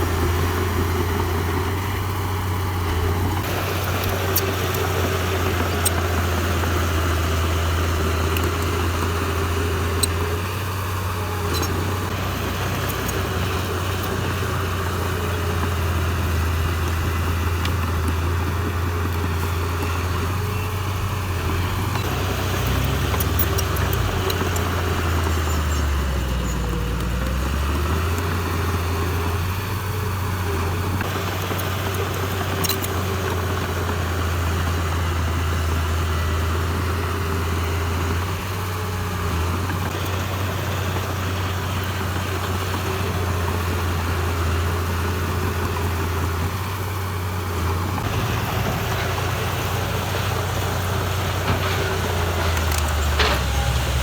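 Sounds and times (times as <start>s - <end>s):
heavy machinery diesel engine drone: 0.0s - 54.0s.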